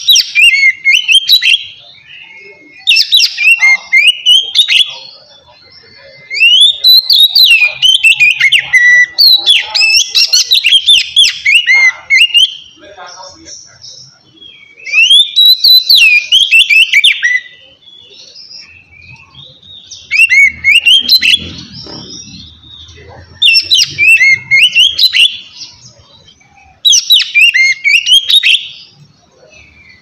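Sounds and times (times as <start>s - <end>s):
bird singing whistled phrases: 0.0s - 5.0s, 5.8s - 12.8s, 14.4s - 30.0s.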